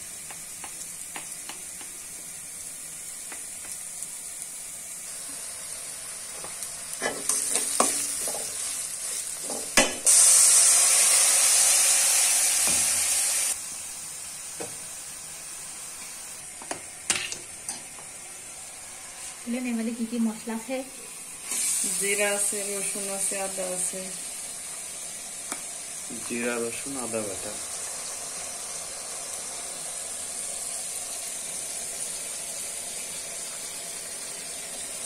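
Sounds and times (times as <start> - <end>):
onions sizzling in a wok: 0.0 - 35.0.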